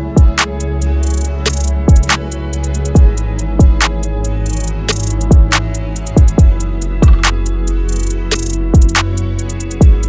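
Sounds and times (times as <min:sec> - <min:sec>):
deep booming kick drums: 0:00.0 - 0:02.2, 0:02.8 - 0:10.0
sustained low bass notes: 0:00.0 - 0:10.0
ticking hi-hats: 0:00.0 - 0:10.0.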